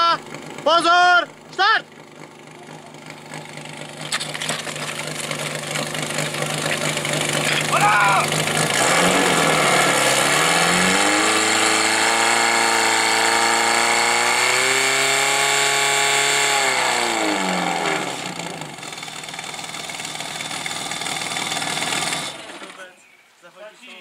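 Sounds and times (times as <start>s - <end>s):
fire pump engine running: 0.0s - 14.8s, 15.4s - 22.8s.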